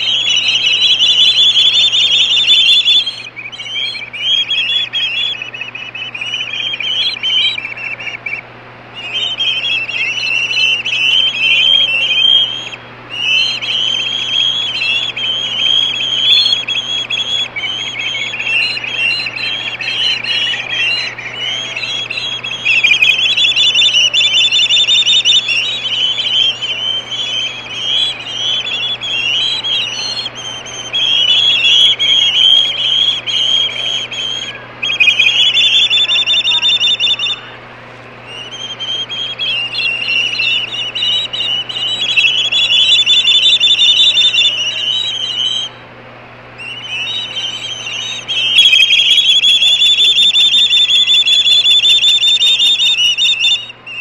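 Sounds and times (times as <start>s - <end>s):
young ospreys screaming: 0.0s - 37.7s, 38.3s - 45.8s, 46.6s - 54.0s.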